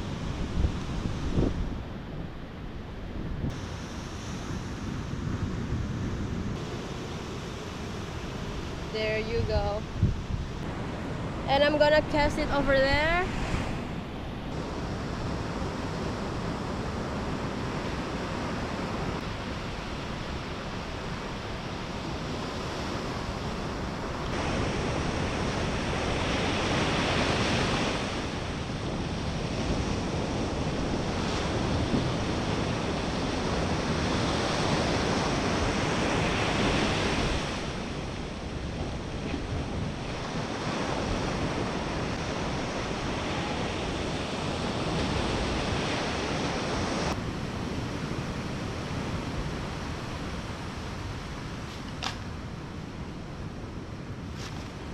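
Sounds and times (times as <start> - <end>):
ocean surf on a beach: 0.0 - 54.9
wind buffeting microphone: 0.0 - 54.9.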